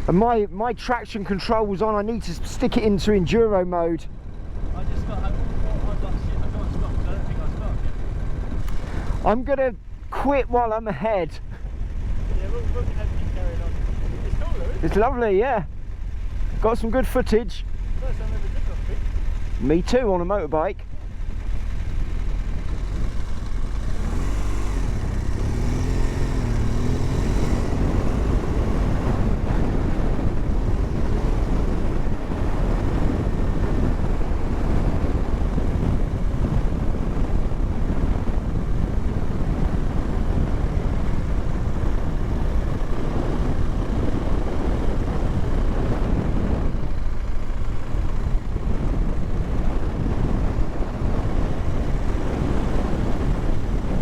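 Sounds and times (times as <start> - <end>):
wind noise on microphone: 0.0 - 54.0
motorcycle engine revving: 4.0 - 54.0.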